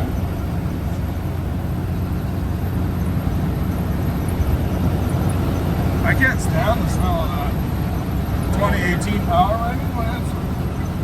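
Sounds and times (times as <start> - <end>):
truck diesel engine drone: 0.0 - 11.0.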